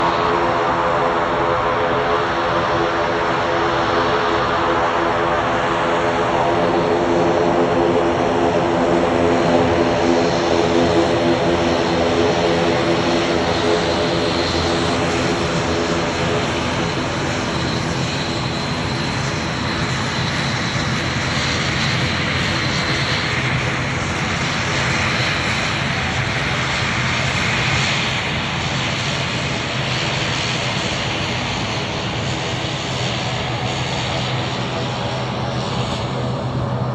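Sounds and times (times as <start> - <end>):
propeller hum: 0.0 - 36.9
turboprop engines roaring: 0.0 - 36.9.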